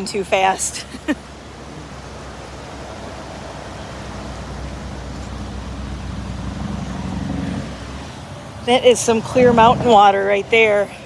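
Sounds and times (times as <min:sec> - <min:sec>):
car passing: 0:00.0 - 0:11.0
creek rushing: 0:00.0 - 0:11.0.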